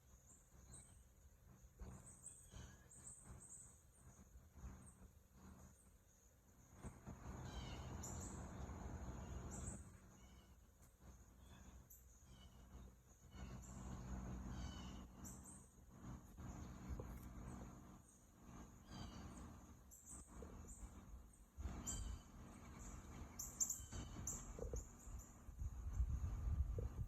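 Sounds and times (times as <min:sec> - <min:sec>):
bird chirps: 0:01.8 - 0:04.8, 0:06.7 - 0:26.2.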